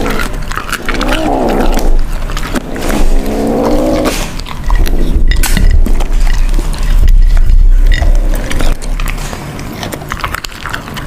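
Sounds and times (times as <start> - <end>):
kitten chewing and biting clicks: 0.0 - 11.0.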